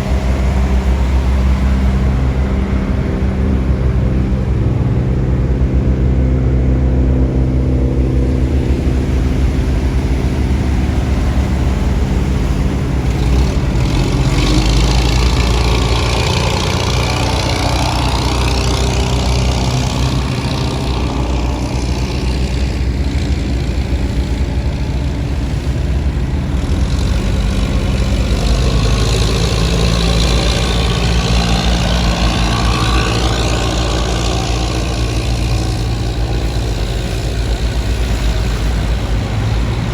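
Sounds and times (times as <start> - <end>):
boat diesel engine humming: 0.0 - 39.9.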